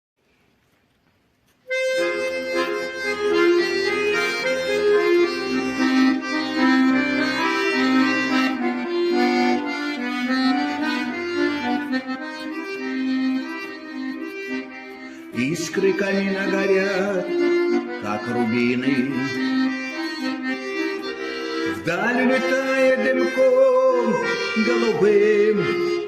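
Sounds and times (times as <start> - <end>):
instrumental song melody: 1.5 - 26.0.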